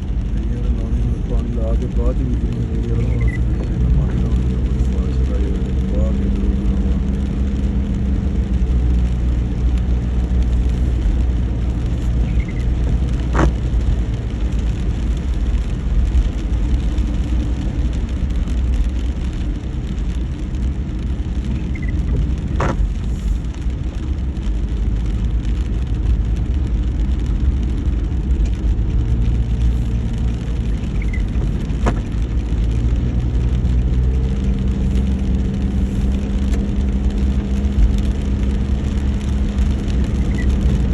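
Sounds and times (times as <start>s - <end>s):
car engine and road rumble: 0.0s - 40.9s
rain noise: 0.0s - 40.9s.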